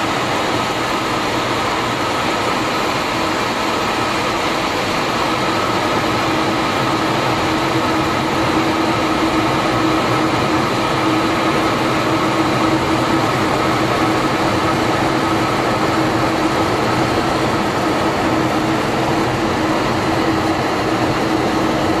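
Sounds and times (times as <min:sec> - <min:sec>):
jet engine and airflow noise: 0:00.0 - 0:22.0.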